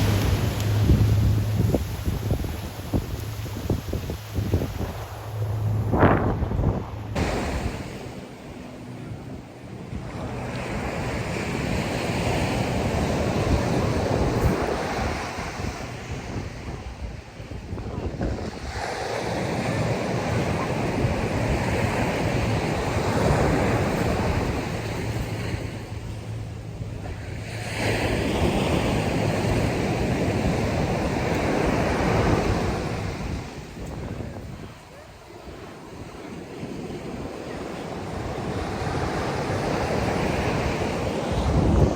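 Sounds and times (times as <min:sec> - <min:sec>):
ocean waves washing in: 0:00.0 - 0:41.9
surf crashing on beach: 0:00.0 - 0:41.9
wind buffeting microphone: 0:00.0 - 0:41.9.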